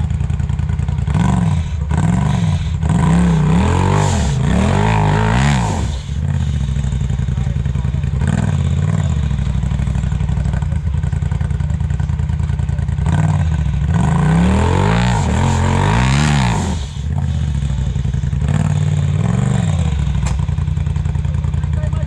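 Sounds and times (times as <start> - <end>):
buggy engine idling and revving: 0.0 - 22.0.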